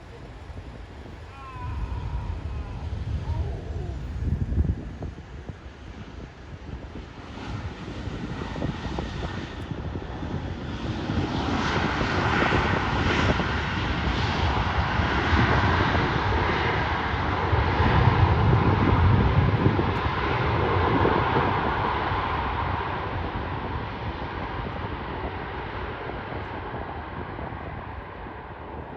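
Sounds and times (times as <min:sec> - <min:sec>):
jet airliner engines roaring: 0:00.0 - 0:28.9.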